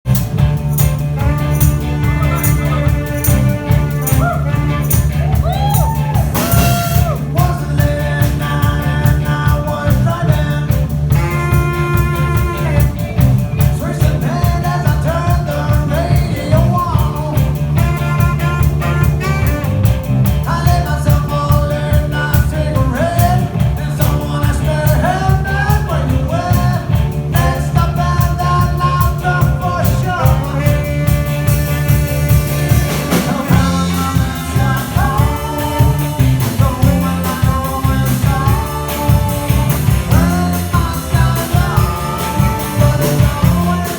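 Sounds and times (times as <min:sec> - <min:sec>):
live band playing: 0:00.1 - 0:43.9.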